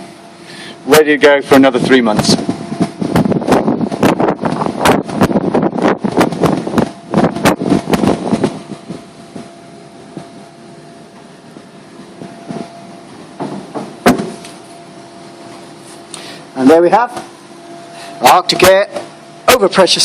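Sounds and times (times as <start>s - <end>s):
machine hum with faint whine: 0.0s - 20.0s.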